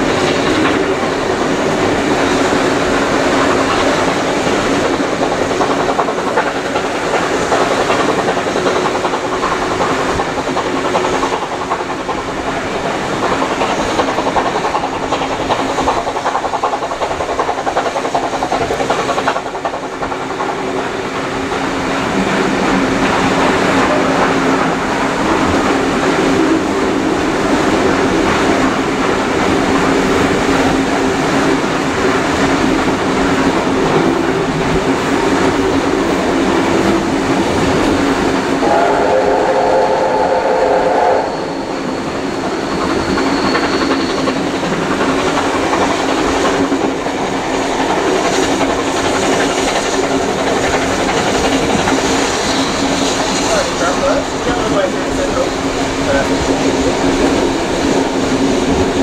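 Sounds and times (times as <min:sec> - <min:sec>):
train wheels rumbling and clattering: 0:00.0 - 0:59.0.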